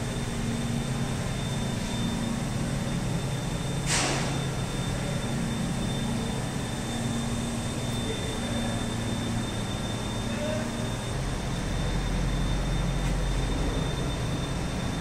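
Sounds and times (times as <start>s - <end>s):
faint high whine: 0.0s - 15.0s
machinery low hum: 0.0s - 15.0s.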